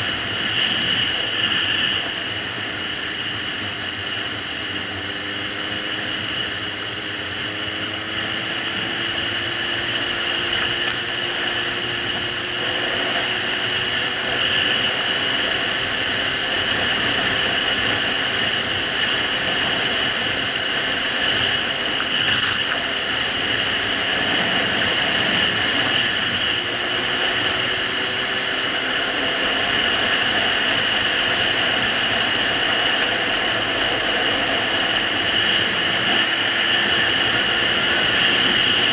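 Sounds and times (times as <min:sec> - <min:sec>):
motorcycle engine running: 0:00.0 - 0:38.9
wind and road roar: 0:00.0 - 0:38.9.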